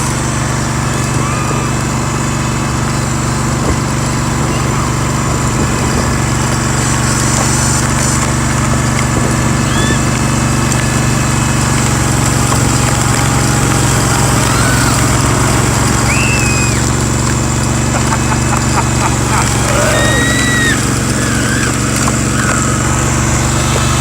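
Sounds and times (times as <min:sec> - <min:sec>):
garden tractor engine running: 0:00.0 - 0:24.0.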